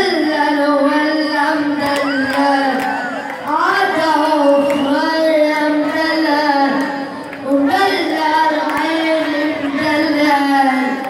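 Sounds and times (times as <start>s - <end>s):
child singing: 0.0s - 2.8s, 3.5s - 11.0s.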